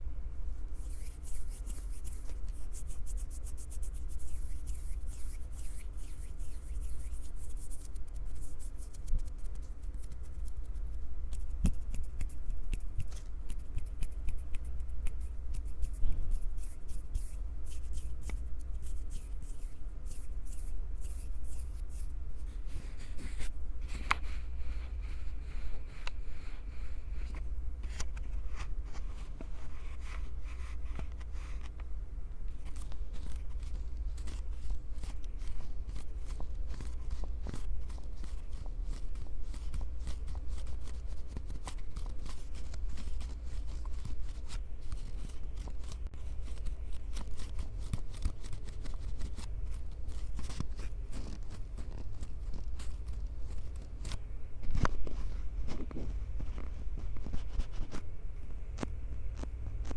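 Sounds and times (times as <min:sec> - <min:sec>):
crackling handling noise on microphone: 0:00.6 - 0:59.9.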